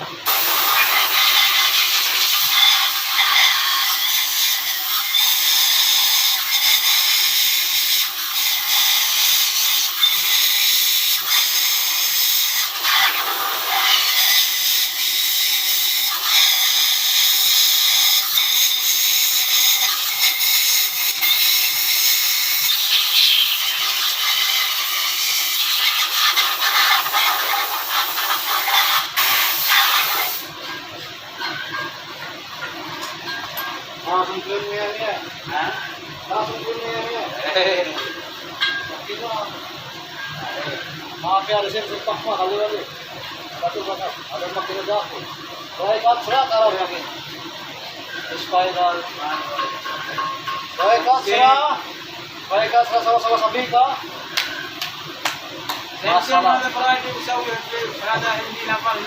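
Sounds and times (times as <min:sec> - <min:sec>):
loud steady hissing: 0:00.0 - 0:59.0.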